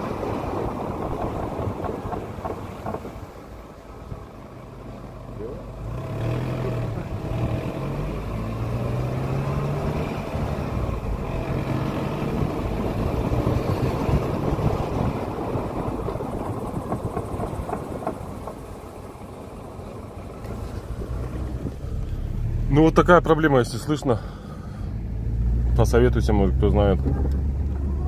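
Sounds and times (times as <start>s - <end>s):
road and tyre noise: 0.0s - 28.0s
car engine revving: 4.9s - 28.0s.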